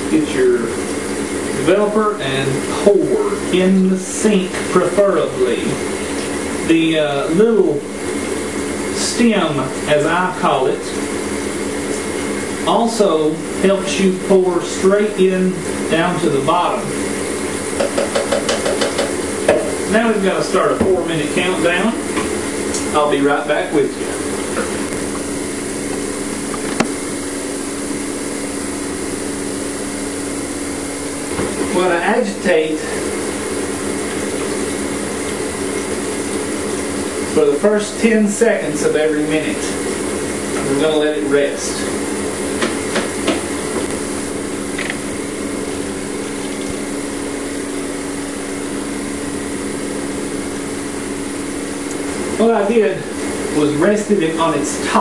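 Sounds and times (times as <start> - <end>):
ventilation fan humming: 0.0 - 55.0.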